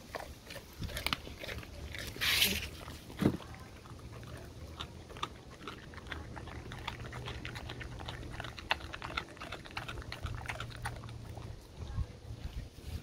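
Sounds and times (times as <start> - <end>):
dog chewing fish: 0.0 - 12.0.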